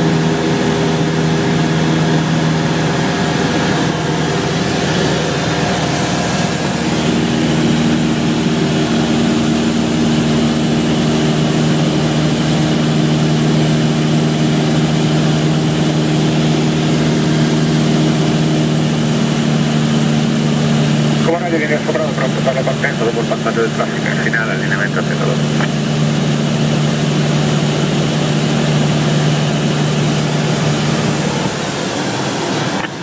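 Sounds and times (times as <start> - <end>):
propeller plane engine running: 0.0 - 33.0.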